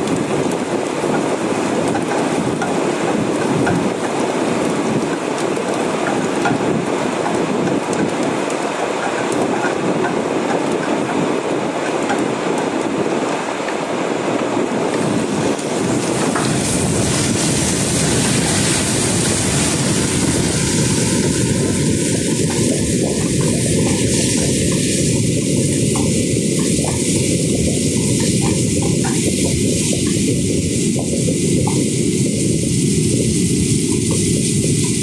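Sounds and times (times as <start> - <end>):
garlic sizzling in oil: 0.0 - 35.0.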